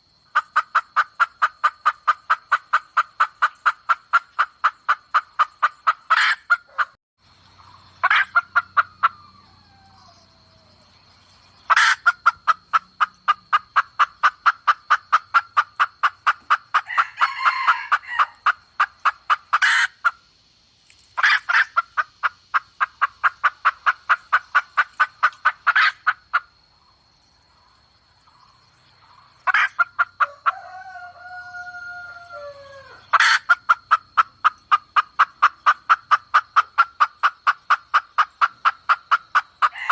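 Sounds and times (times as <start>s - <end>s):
sharp hen calls: 0.3s - 7.0s, 7.6s - 10.8s, 11.6s - 20.3s, 21.2s - 26.5s, 29.1s - 39.9s
hen clucking rapidly: 0.3s - 9.9s, 11.6s - 20.3s, 21.2s - 26.8s, 27.6s - 39.9s.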